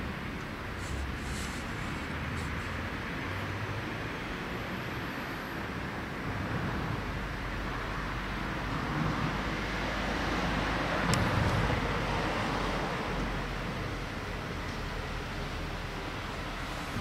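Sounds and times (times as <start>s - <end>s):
road traffic rush: 0.0s - 17.0s.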